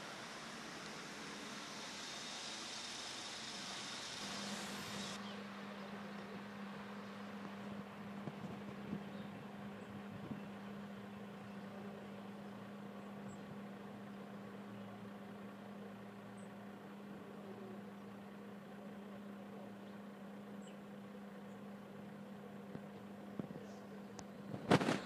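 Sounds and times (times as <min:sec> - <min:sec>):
fire engine idling hum: 0:00.0 - 0:25.0.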